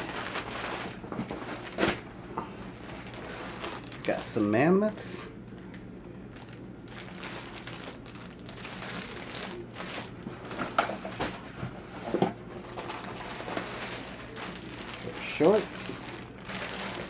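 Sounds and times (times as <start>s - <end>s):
plastic bags crinkling: 0.0s - 11.4s, 12.0s - 17.0s.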